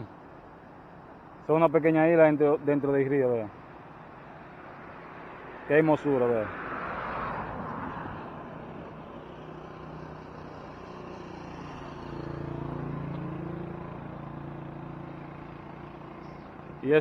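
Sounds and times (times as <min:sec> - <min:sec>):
vehicle engine hum: 0:02.6 - 0:17.0.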